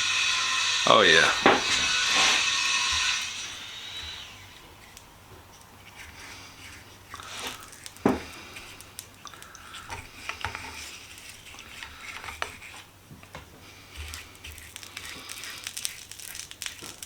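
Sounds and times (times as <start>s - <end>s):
hot steel crackling in oil: 0.0s - 13.0s, 13.6s - 17.0s.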